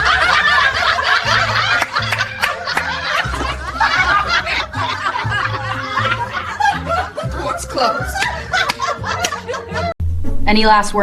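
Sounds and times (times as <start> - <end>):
people laughing and snickering: 0.0 - 10.0
background music with bass line: 0.0 - 10.8.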